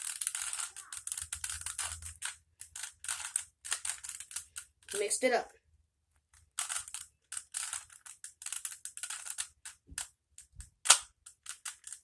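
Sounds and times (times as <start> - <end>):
puzzle cube clicking and rattling: 0.0 - 5.1, 6.3 - 12.0.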